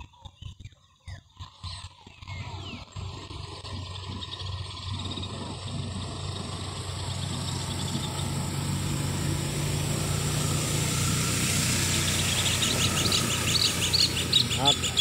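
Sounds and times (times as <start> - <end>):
small bird chirping rapidly: 0.0 - 15.0
engine humming: 1.4 - 15.0.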